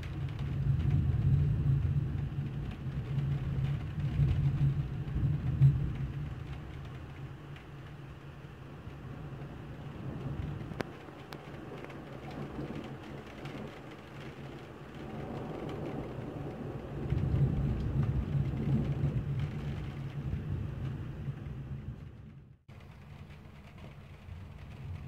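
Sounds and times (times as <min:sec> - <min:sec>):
steady rain: 0:00.0 - 0:25.0
thunder rumbling: 0:00.0 - 0:25.0.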